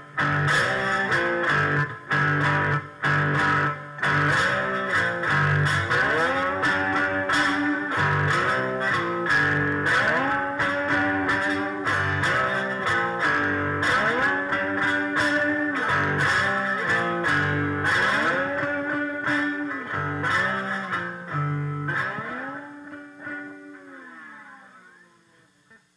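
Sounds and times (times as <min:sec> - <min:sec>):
slide guitar blues: 0:00.0 - 0:25.8.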